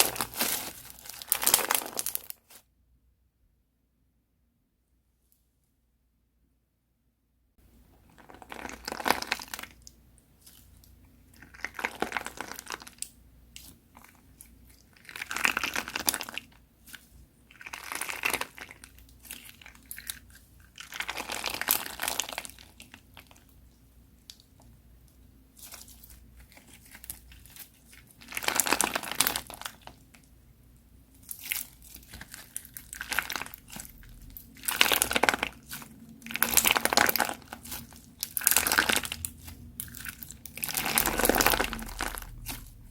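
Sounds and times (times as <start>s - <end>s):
crunchy slime crackling: 0.0s - 2.6s, 8.0s - 23.6s, 25.5s - 30.3s, 31.1s - 42.9s.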